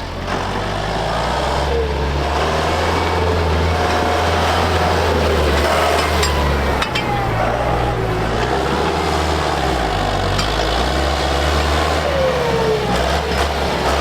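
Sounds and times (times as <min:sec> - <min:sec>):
tractor engine humming: 0:00.0 - 0:14.0.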